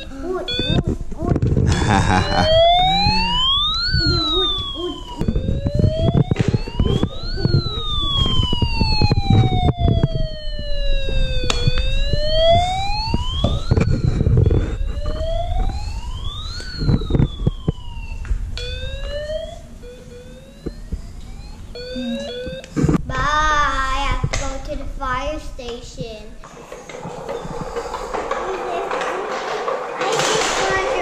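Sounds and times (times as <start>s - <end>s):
electronic siren wailing: 0.0s - 0.9s, 1.5s - 23.0s, 26.5s - 29.4s.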